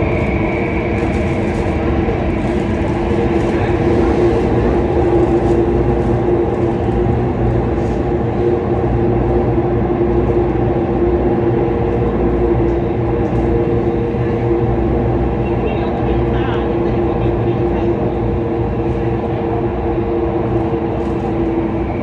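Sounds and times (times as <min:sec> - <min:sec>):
metro train rumble: 0:00.0 - 0:22.0.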